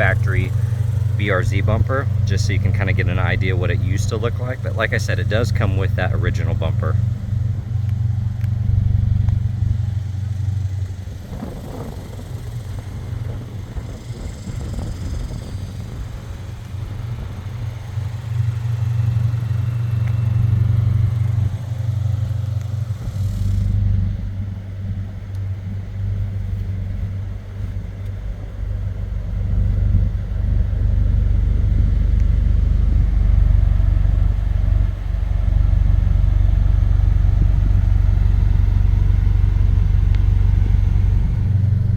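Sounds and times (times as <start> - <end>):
car engine low drone: 0.0 - 41.9.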